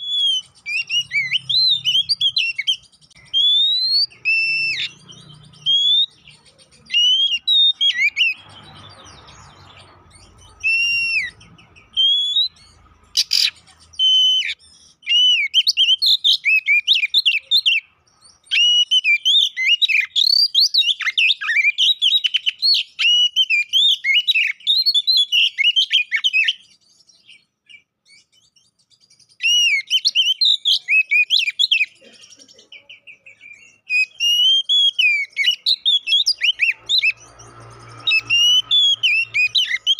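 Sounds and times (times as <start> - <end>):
bird singing whistled phrases: 0.0 - 32.0, 32.8 - 39.9.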